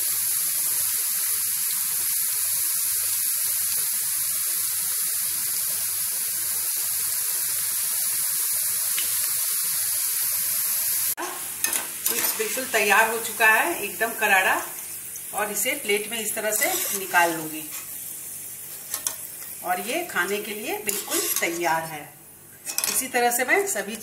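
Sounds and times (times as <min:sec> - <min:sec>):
potato slices sizzling in oil: 0:00.0 - 0:24.0.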